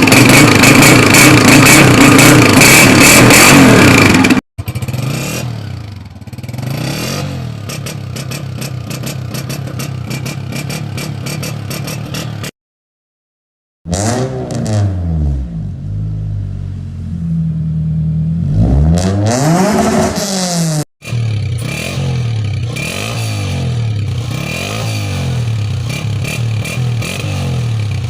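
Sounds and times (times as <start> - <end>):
motorcycle engine revving: 0.0 - 12.5, 13.9 - 28.0.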